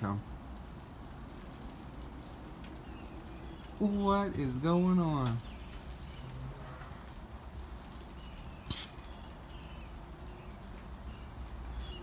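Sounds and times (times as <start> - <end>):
small birds high-pitched calls: 0.0 - 12.0.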